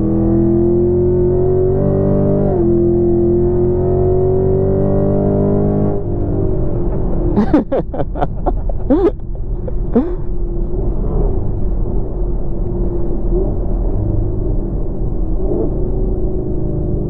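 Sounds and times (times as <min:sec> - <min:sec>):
engine cracks and rev blips: 0:00.0 - 0:17.0
engine low rumble: 0:00.0 - 0:17.0.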